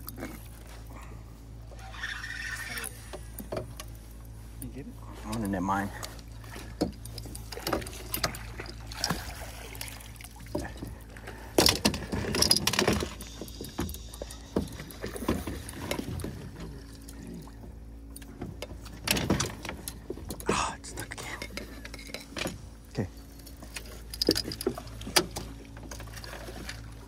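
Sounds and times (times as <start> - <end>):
knocks and thumps on a boat: 3.0 - 4.5, 5.2 - 27.0.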